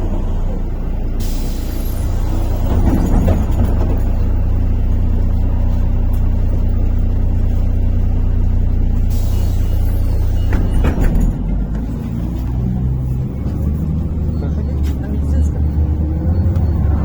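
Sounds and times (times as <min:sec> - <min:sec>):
bus engine drone: 0:00.0 - 0:17.0
road rumble: 0:00.0 - 0:17.0.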